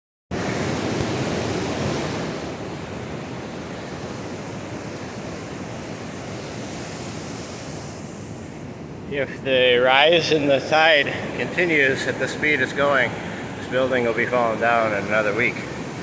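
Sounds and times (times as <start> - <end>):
waves breaking on beach: 0.3 - 16.0.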